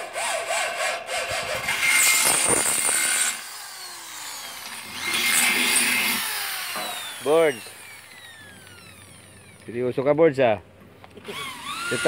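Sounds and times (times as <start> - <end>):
electric drill grinding through metal: 0.0 - 9.7, 11.2 - 12.0.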